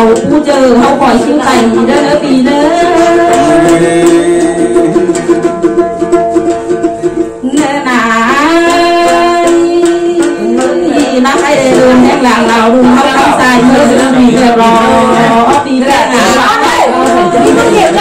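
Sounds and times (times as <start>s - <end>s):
plucked lute: 0.0s - 18.0s.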